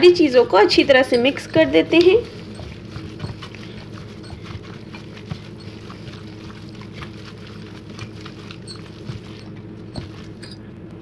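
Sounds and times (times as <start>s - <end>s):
gloved hand squelching in marinade: 0.6s - 10.6s.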